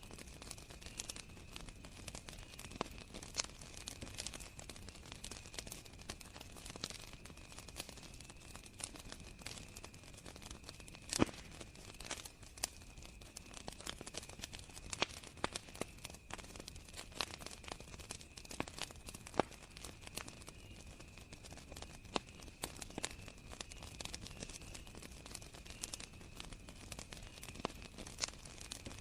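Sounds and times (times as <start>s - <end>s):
campfire crackling and popping: 0.0s - 29.0s
crickets trilling: 0.2s - 29.0s.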